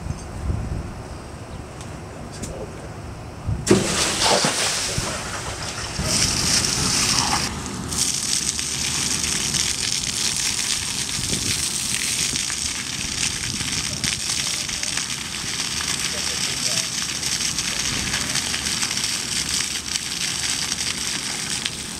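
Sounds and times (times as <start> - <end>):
water spraying from a hose: 3.7 - 21.9.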